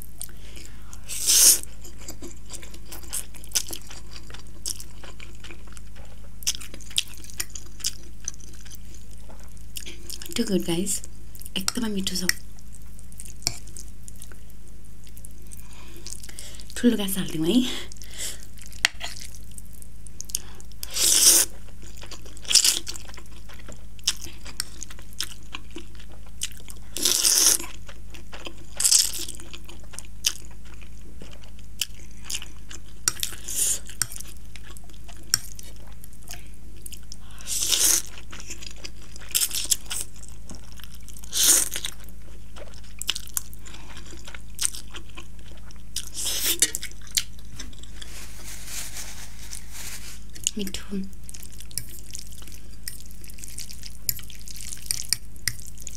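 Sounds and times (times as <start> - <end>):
person chewing: 0.1 - 10.4, 12.6 - 14.4, 17.9 - 55.9.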